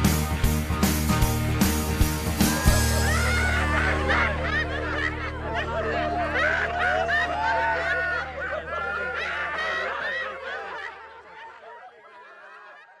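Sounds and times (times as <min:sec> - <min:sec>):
crowd cheering and shouting: 0:01.6 - 0:13.0.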